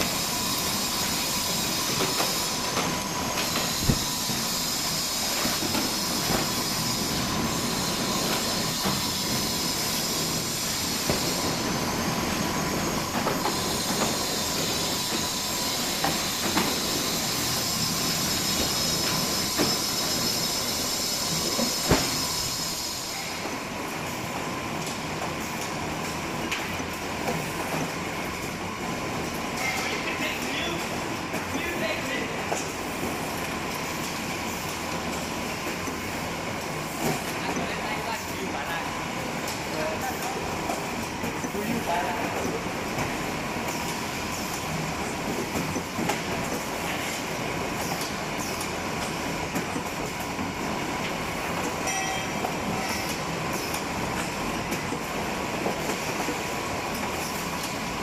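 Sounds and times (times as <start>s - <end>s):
machine clattering with hiss: 0.0s - 58.0s.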